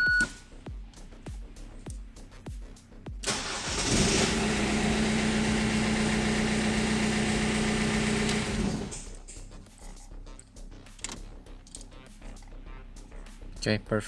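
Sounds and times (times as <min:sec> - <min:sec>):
car engine idling: 0:00.0 - 0:13.6
starter cranking engine: 0:00.0 - 0:13.6.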